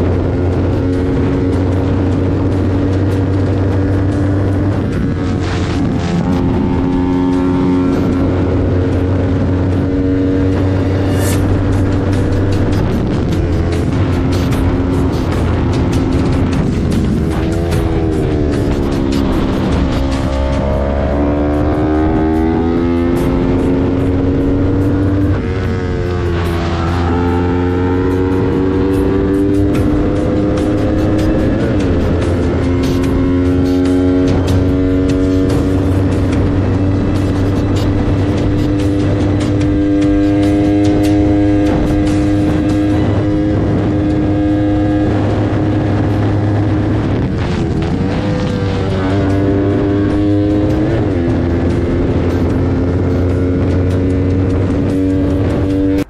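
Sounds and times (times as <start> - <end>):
motorcycle engine accelerating: 0.0 - 56.0
wind rushing over microphone: 0.0 - 56.0.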